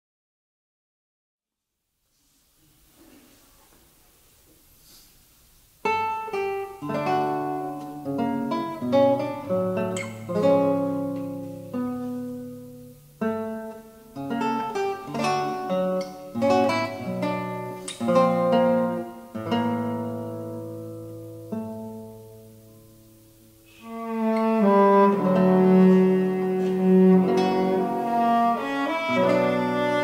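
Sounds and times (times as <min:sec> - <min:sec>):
classical guitar playing: 0:05.8 - 0:30.0.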